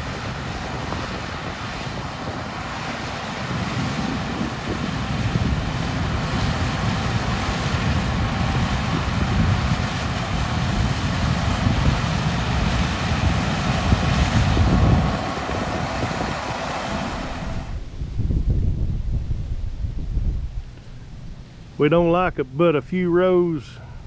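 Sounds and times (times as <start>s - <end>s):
combine harvester rumbling: 0.0s - 18.0s, 20.4s - 24.0s.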